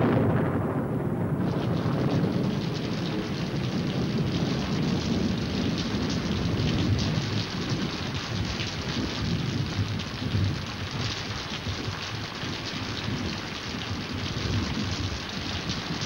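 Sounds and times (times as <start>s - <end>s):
heavy rain: 0.0s - 16.0s
rolling thunder rumble: 0.0s - 16.0s.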